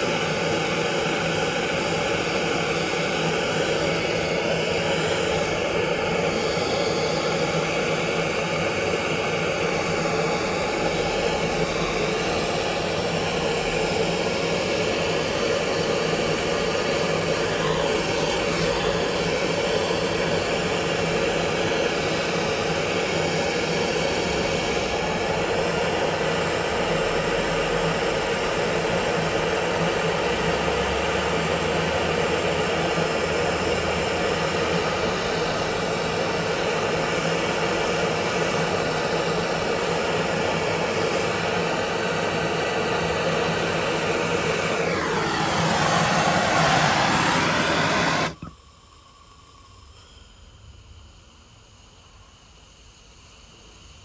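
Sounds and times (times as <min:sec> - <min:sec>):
gas torch rushing: 0:00.0 - 0:48.6.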